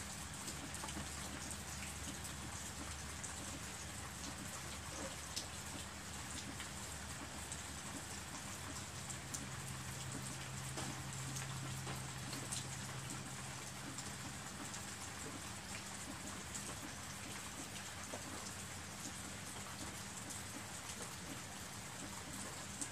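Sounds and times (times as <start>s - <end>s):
steady rain hiss: 0.0s - 22.9s.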